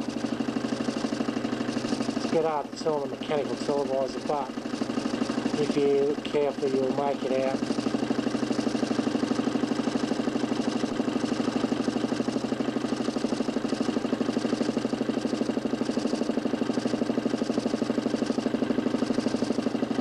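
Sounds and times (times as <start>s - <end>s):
electric motor pulsing hum: 0.0s - 20.0s.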